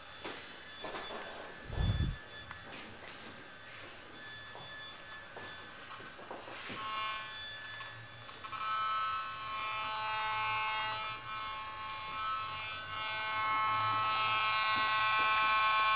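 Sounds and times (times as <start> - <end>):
bug detector buzzing alarm: 0.0 - 15.9.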